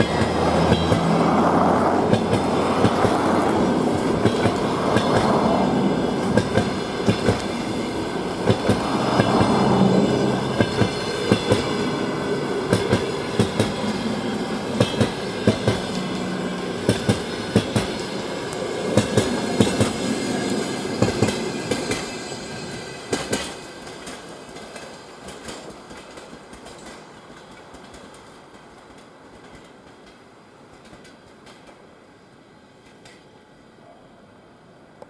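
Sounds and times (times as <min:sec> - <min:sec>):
train wheels clicking over rail joints: 0:00.0 - 0:31.9, 0:32.8 - 0:33.3.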